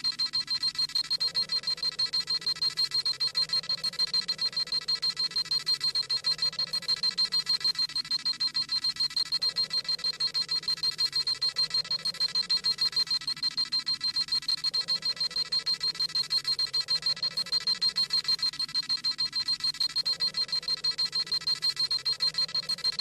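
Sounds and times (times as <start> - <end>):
rapid high-pitched electronic beeping: 0.0 - 23.0.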